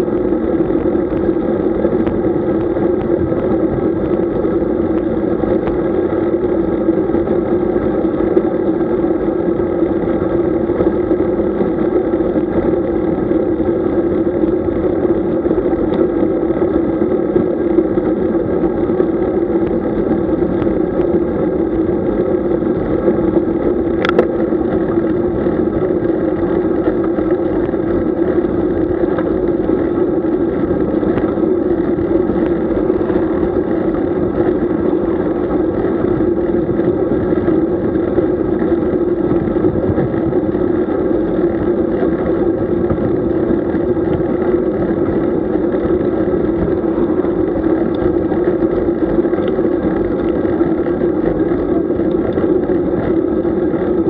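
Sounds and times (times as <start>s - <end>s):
bicycle tyre noise: 0.0s - 54.0s.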